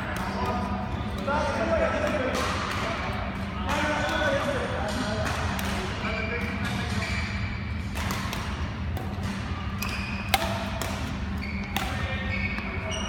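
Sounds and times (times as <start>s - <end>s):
badminton rackets hitting shuttlecock: 1.9s - 13.0s.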